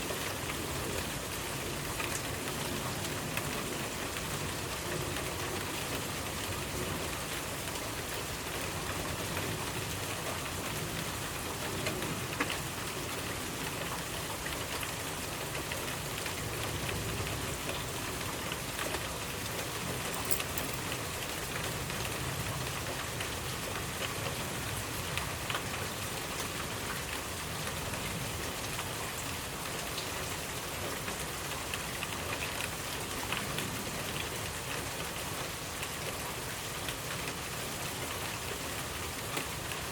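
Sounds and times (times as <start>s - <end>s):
raindrops tapping on surfaces: 0.0s - 39.9s.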